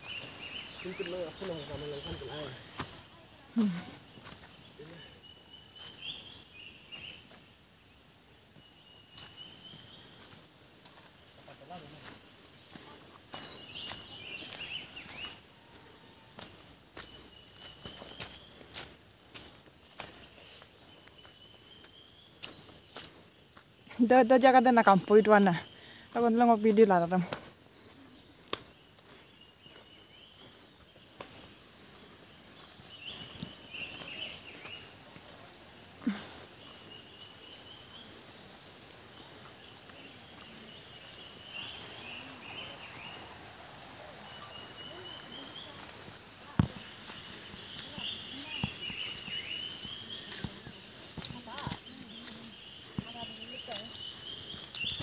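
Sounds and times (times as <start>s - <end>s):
footsteps on dirt trail: 0.0s - 55.0s
forest ambience: 0.0s - 55.0s.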